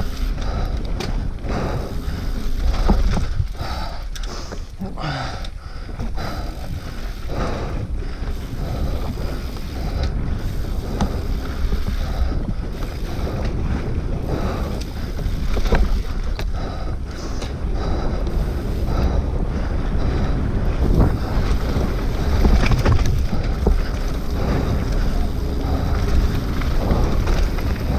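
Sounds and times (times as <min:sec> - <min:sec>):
wind buffeting microphone: 0:00.0 - 0:04.2, 0:05.0 - 0:27.9
bike rattling over bumps: 0:00.0 - 0:27.9
bike tyres rumbling on dirt: 0:00.0 - 0:27.9.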